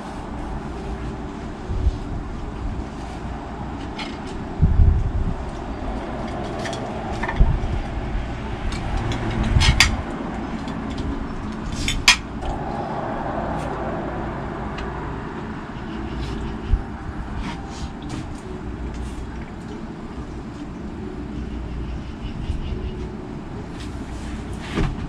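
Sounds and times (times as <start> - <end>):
low outdoor rumble: 0.0 - 24.7.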